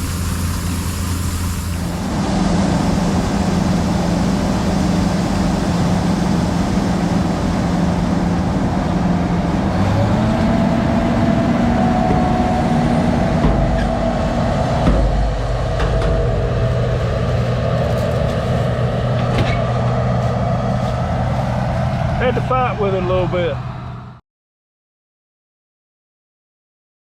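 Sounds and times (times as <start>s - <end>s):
deep rumble: 0.0s - 24.2s
heavy engine running: 0.0s - 24.2s.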